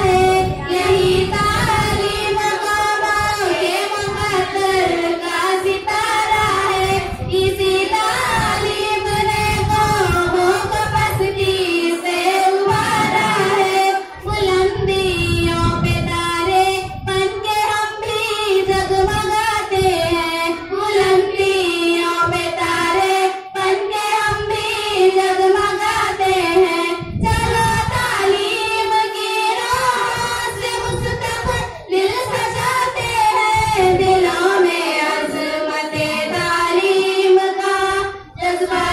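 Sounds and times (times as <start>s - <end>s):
girls singing through microphones: 0.0s - 38.9s.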